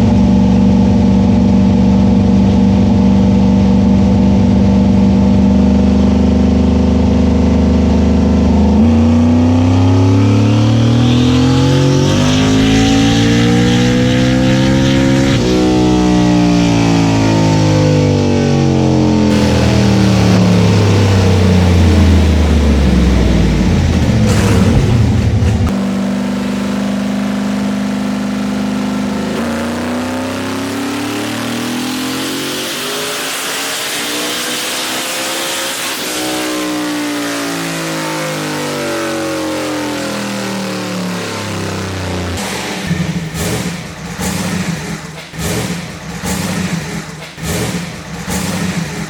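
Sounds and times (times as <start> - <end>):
race car engine: 0.0 - 49.0.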